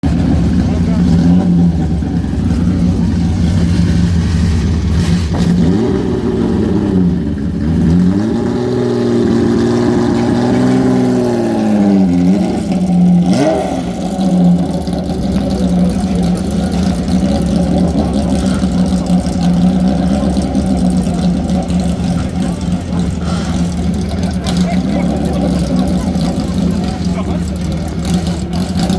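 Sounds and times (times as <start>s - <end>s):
racing engine idling and revving: 0.0s - 28.9s.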